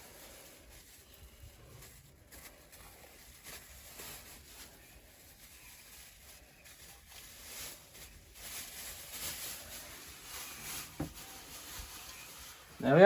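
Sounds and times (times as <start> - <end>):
faint rustling and handling: 0.0 - 13.0.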